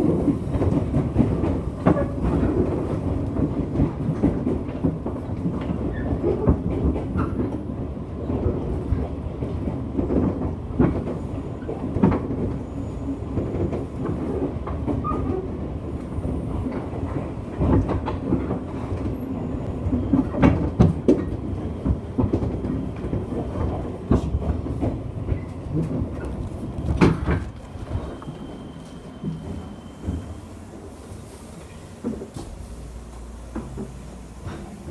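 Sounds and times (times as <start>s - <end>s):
train rumbling: 0.0s - 34.9s.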